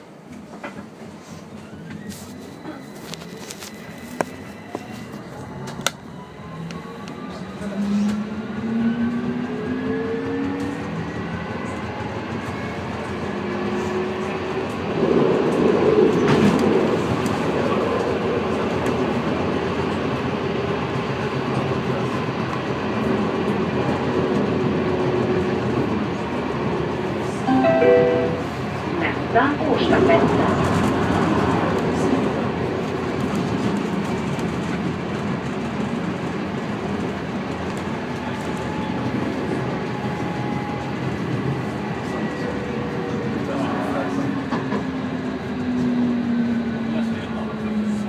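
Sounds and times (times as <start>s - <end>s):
tram running on rails: 0.0s - 48.0s.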